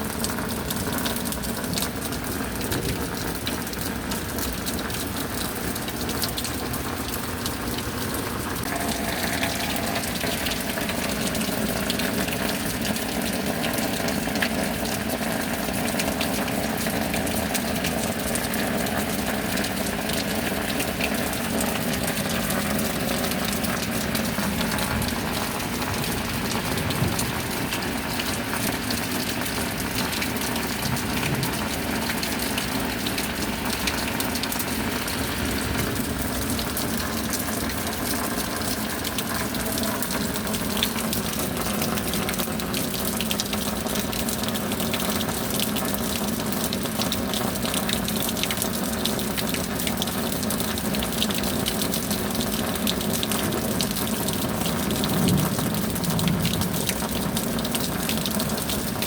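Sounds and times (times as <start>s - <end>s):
steady rain: 0.0s - 59.0s
water running and gushing: 0.0s - 59.0s.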